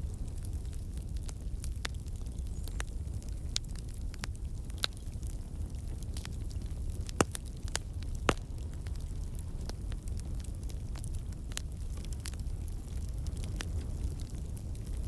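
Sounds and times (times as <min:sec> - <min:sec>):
wood crackling and popping: 0:00.0 - 0:15.0.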